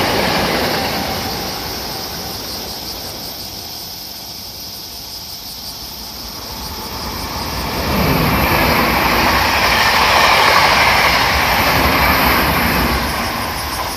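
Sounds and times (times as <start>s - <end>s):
train passing through station: 0.0s - 13.9s.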